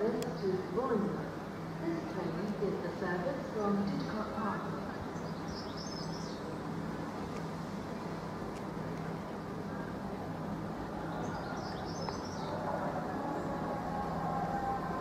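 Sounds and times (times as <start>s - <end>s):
diesel train hum: 0.0s - 15.0s.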